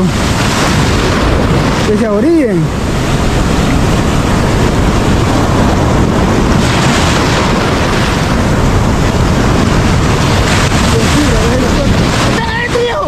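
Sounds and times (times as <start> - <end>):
ocean waves breaking: 0.0 - 13.0
wind noise on microphone: 0.0 - 13.0.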